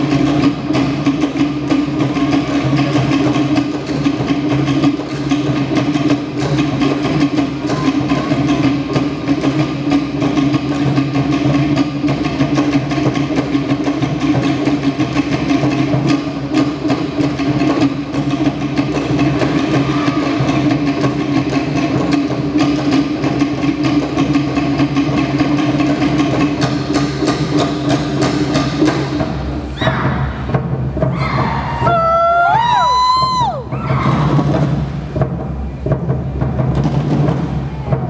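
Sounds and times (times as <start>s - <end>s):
deeper drum: 0.0s - 38.0s
slit-log drums playing fast: 0.0s - 38.0s.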